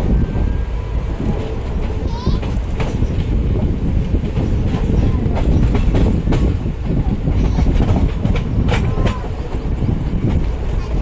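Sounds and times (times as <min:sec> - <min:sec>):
train coaches rumbling: 0:00.0 - 0:11.0
wheels clattering over rail joints: 0:01.2 - 0:11.0.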